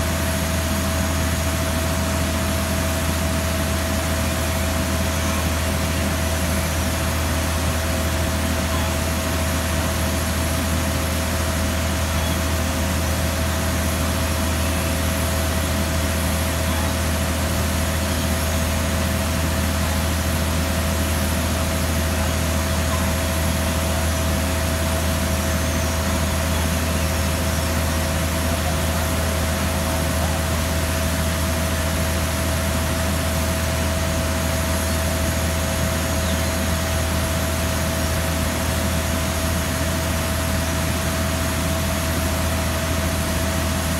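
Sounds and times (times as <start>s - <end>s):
constant high whine: 0.0s - 43.9s
loader engine low drone: 0.0s - 43.9s.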